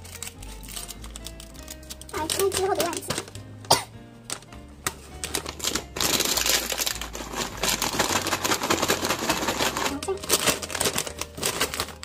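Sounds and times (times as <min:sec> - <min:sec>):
plastic bag clicks: 0:00.0 - 0:03.4, 0:04.3 - 0:12.0
plastic bag crinkling: 0:00.0 - 0:03.4, 0:05.1 - 0:12.0
background music with low bass: 0:00.0 - 0:12.0.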